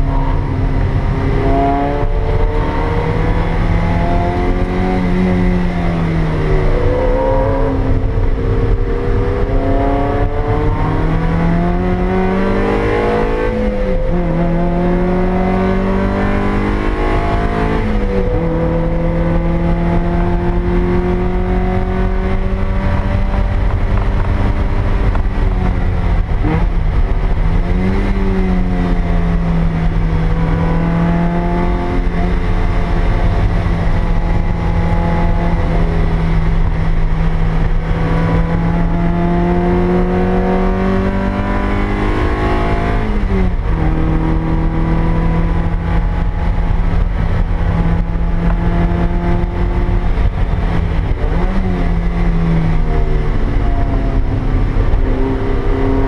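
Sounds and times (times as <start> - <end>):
car engine at full throttle: 0.0 - 56.0
tyre and road noise: 0.0 - 56.0.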